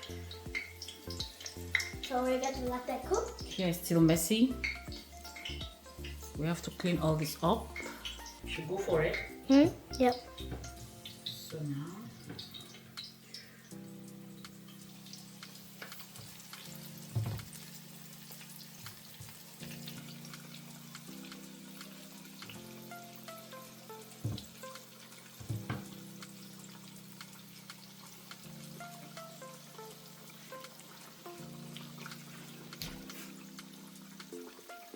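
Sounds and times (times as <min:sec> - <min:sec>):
background music: 0:00.0 - 0:34.9
chicken sizzling in oil: 0:00.0 - 0:34.9.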